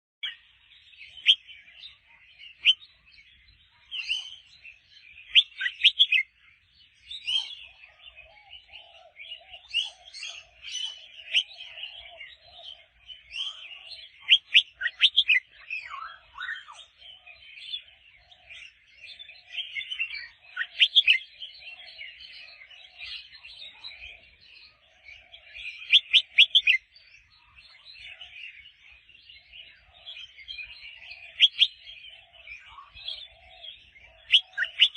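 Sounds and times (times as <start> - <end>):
bird chirping song: 0.2 - 34.9.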